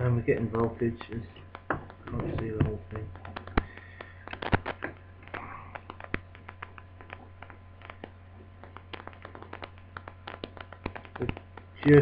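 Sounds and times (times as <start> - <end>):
steady low hum: 0.0 - 12.0
small clicks and taps: 0.4 - 12.0.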